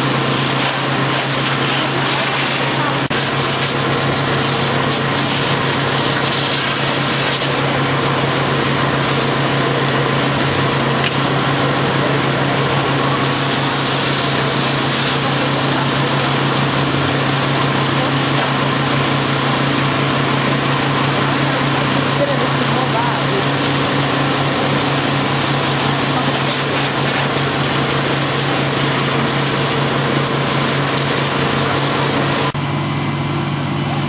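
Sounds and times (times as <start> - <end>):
pump engine drone: 0.0 - 34.0.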